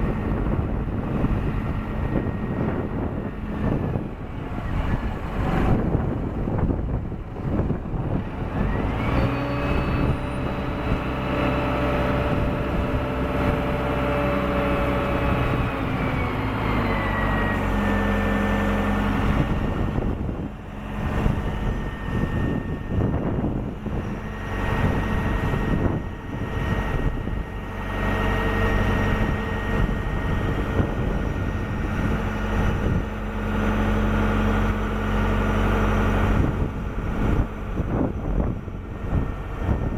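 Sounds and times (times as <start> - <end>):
diesel engine revving with whine: 0.0 - 39.9.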